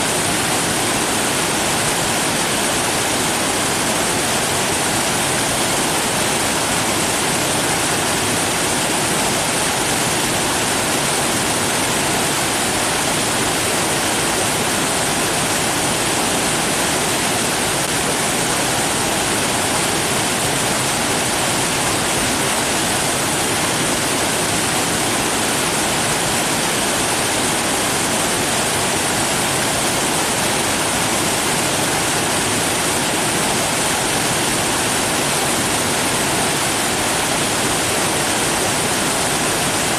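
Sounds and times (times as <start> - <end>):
rush of falling water: 0.0 - 39.9.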